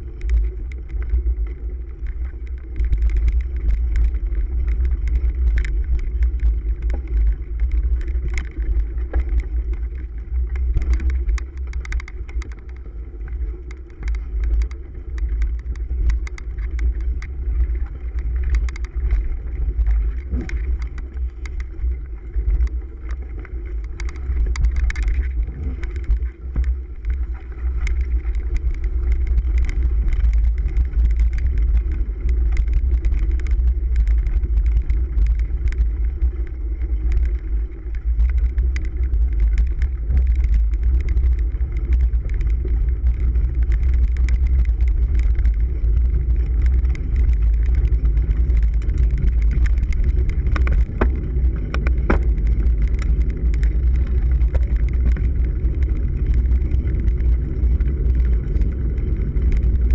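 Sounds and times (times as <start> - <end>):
bike rattling clicks and knocks: 0.0 - 59.9
wind noise on camera: 0.0 - 59.9.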